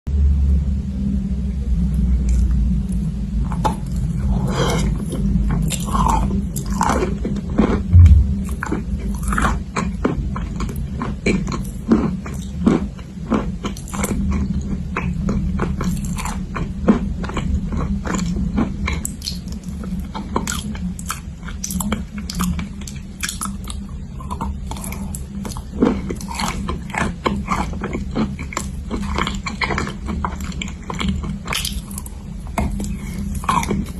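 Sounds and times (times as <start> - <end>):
steady low hum: 0.1 - 33.9
crisp chewing crunches: 2.2 - 33.9.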